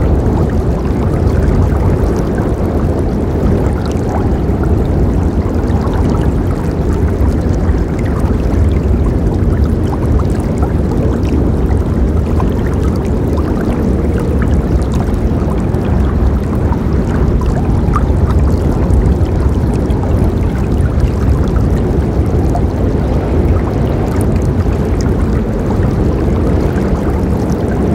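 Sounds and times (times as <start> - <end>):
river water flowing: 0.0 - 27.9.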